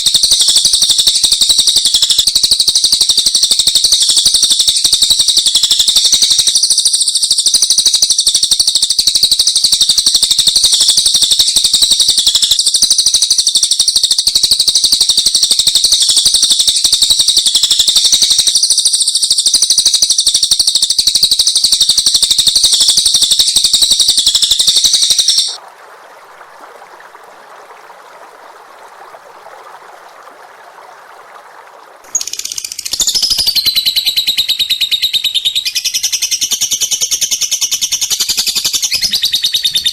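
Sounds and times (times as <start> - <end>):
songbird high trilling song: 0.2 - 25.6, 32.1 - 39.9.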